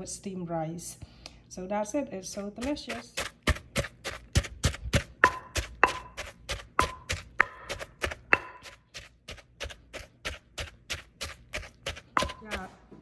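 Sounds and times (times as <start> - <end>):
wooden pestle pounding in mortar: 2.4 - 13.0
mortar ringing: 2.5 - 13.0.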